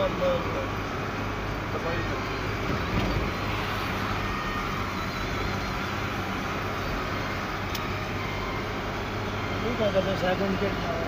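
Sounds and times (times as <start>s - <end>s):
rough road noise: 0.0s - 11.0s
truck diesel engine running: 0.0s - 11.0s.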